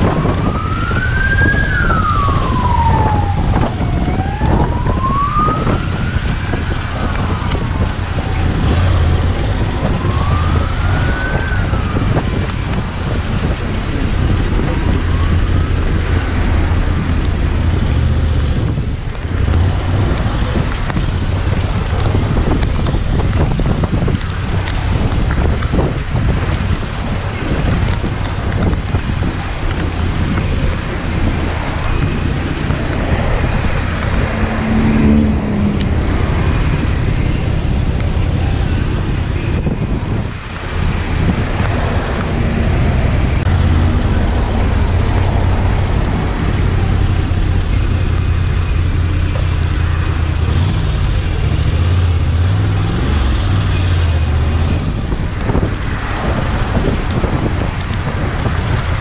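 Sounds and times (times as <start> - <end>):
road traffic: 0.0 - 59.0
wind noise on microphone: 0.0 - 59.0.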